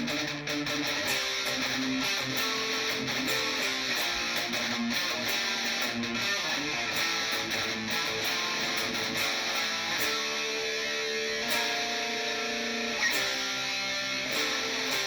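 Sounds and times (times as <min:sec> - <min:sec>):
electric guitar through an amp: 0:00.0 - 0:15.0.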